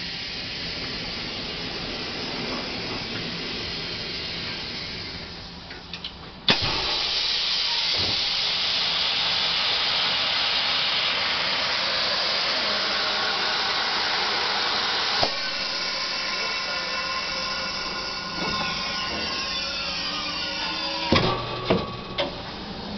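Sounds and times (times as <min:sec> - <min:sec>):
loud hiss of air: 0:00.0 - 0:05.6, 0:06.5 - 0:22.9.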